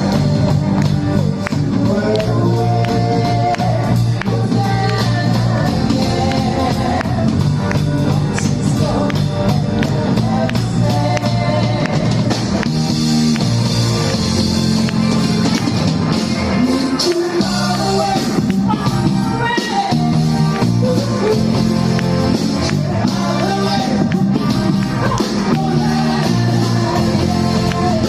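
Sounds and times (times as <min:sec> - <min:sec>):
person singing: 0:00.0 - 0:12.6, 0:16.4 - 0:28.0
rock band playing: 0:00.0 - 0:28.0.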